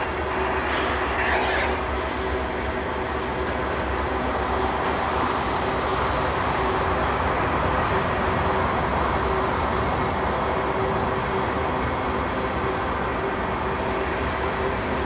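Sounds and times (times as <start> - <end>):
freight train running by: 0.0 - 15.0.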